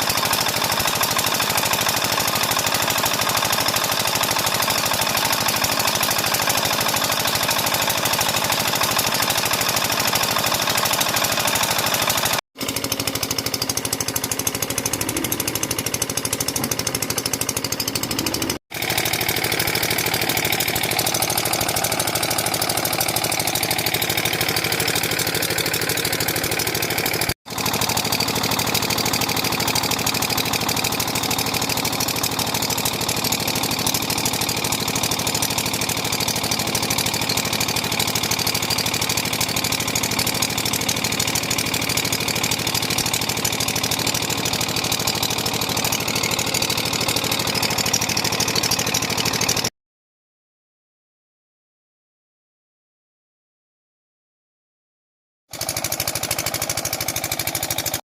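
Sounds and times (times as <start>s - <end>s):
diesel engine knocking clatter: 0.0s - 49.7s, 55.5s - 58.0s.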